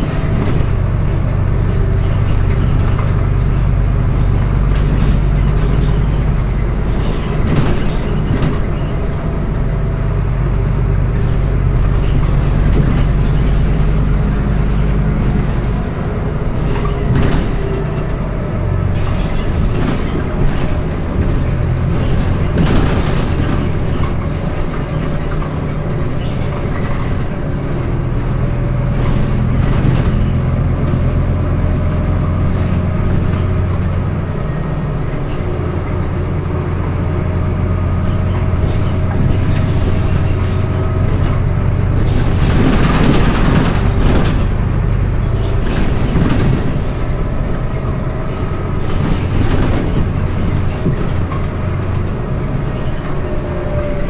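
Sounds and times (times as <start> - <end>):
bus body rattling: 0.0 - 54.0
bus diesel engine running: 0.0 - 54.0.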